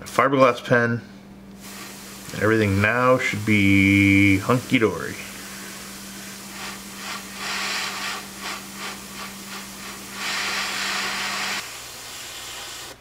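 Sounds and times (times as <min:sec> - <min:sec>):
air compressor humming: 0:01.5 - 0:13.0
airbrush spraying hiss: 0:01.6 - 0:13.0.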